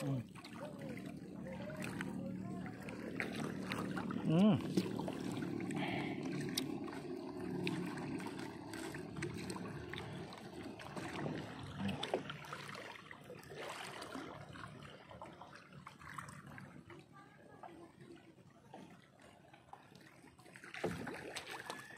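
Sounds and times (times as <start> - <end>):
low motor hum: 0.0 - 21.9
water sounds: 0.0 - 21.9.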